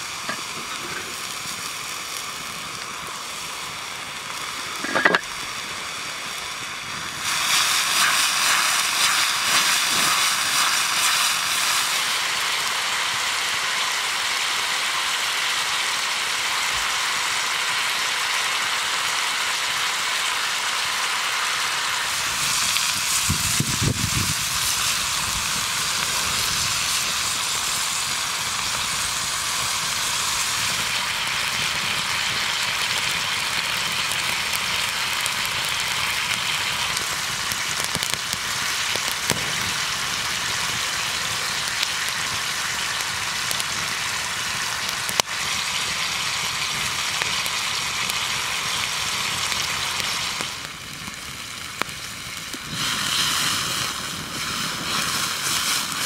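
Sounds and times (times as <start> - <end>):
food sizzling in a hot pan: 0.0 - 56.0.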